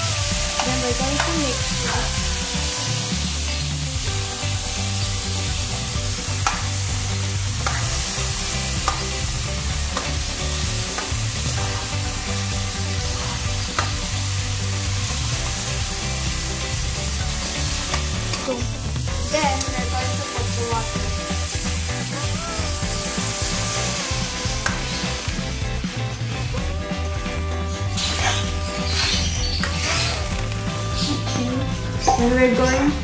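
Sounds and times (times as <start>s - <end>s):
vegetables sizzling in wok: 0.0s - 33.0s.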